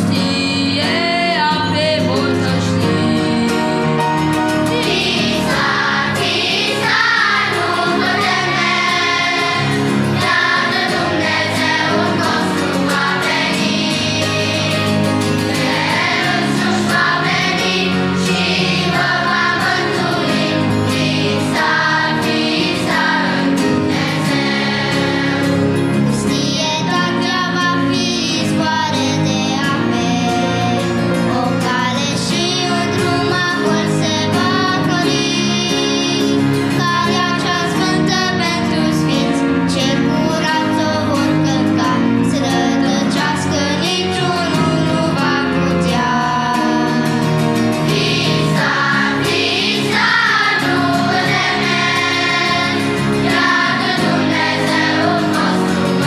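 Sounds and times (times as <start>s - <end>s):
children's choir singing: 0.0s - 56.0s
instrumental accompaniment: 0.0s - 56.0s.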